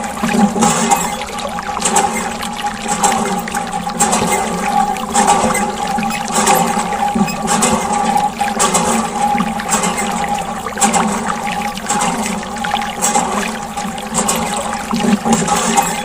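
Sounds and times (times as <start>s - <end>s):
steady pump hum: 0.0s - 16.0s
water splashing and trickling: 0.0s - 16.0s.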